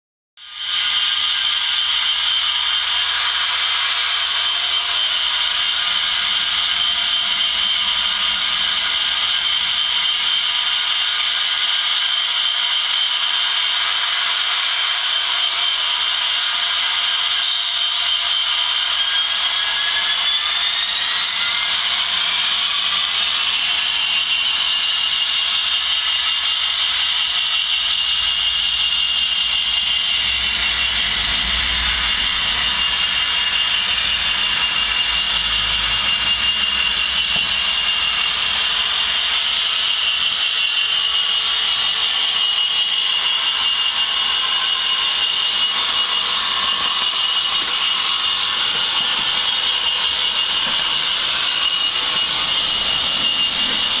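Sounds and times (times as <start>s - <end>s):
turbocharger whine: 0.4s - 54.0s.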